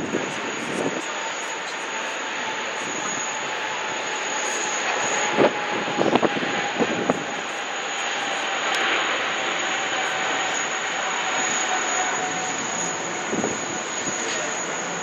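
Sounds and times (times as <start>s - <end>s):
high whine: 0.0s - 15.0s
jet engines roaring: 0.0s - 15.0s.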